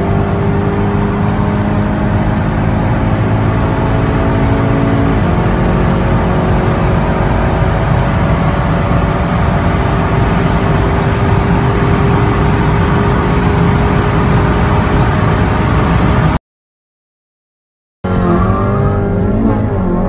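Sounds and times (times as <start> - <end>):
car engine drone: 0.0 - 16.4, 18.0 - 20.0
wind and road noise: 0.0 - 16.4.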